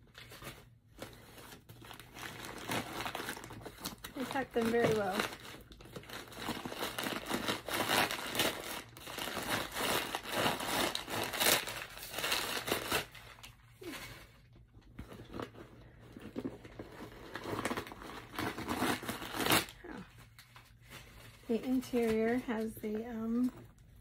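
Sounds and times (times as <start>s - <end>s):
paper crinkling and rustling: 0.0s - 24.0s.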